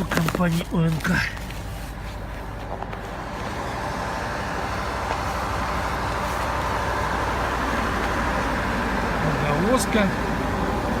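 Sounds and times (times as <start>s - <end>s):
drilling rig machinery humming: 0.0s - 11.0s.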